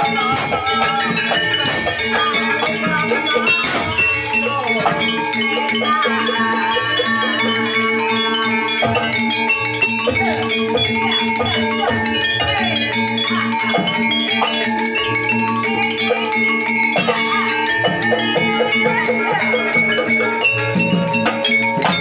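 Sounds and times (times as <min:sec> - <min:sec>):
struck metallophones: 0:00.0 - 0:22.0.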